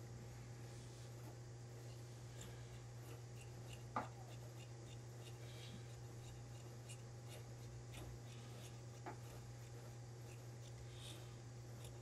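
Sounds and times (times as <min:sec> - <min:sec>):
low steady hum: 0:00.0 - 0:12.0
shears snipping cloth: 0:01.8 - 0:12.0.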